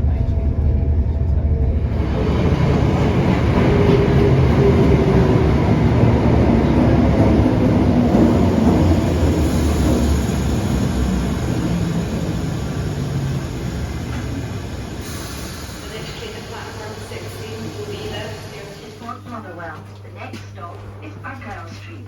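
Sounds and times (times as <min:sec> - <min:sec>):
electric train rumbling past: 0:00.0 - 0:22.0.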